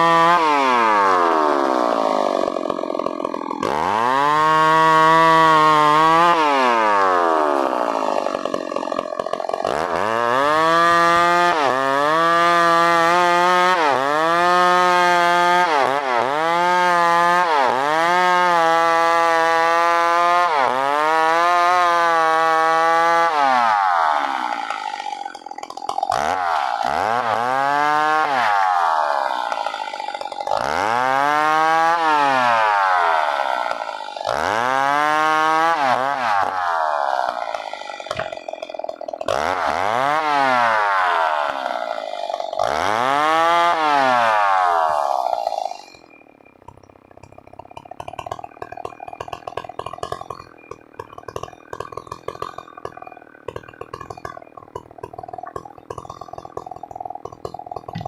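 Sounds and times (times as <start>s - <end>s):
chainsaw cutting wood at high revs: 0.0s - 58.0s.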